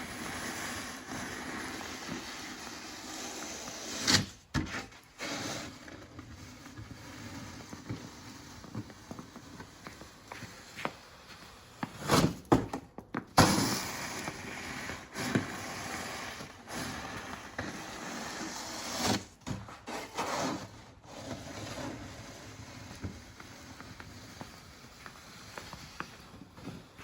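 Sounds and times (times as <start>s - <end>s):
snow plow scraping wet snow: 0.0s - 4.4s, 5.0s - 10.8s, 13.5s - 27.0s.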